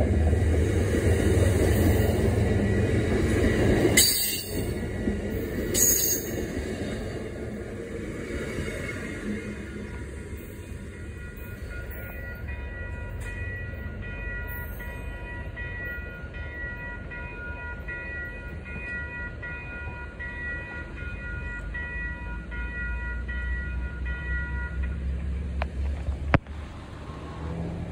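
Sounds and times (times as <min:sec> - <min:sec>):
train rumbling: 0:00.0 - 0:27.9
crossing warning bell ringing: 0:01.0 - 0:25.6.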